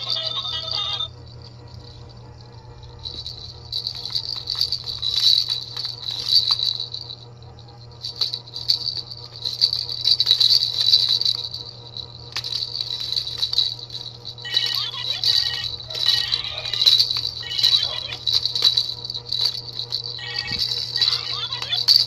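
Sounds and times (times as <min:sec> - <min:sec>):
plastic baby rattle jingling: 0:01.5 - 0:07.2, 0:08.0 - 0:22.0.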